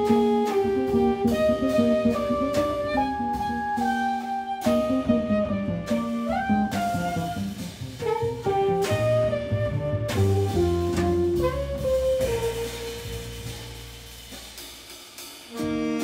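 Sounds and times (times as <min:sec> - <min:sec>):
electric guitar: 0:00.0 - 0:13.4
saxophone melody: 0:00.0 - 0:14.1, 0:15.5 - 0:16.0
double bass: 0:00.0 - 0:16.0
drums: 0:00.0 - 0:16.0.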